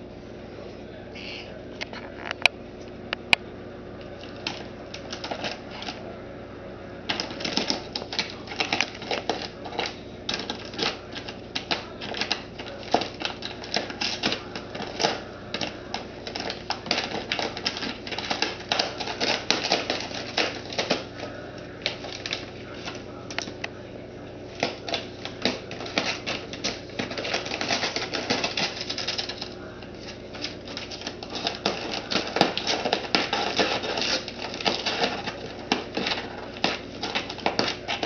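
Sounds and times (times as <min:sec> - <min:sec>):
cat food bag crinkling: 0:04.0 - 0:06.0, 0:07.1 - 0:38.0.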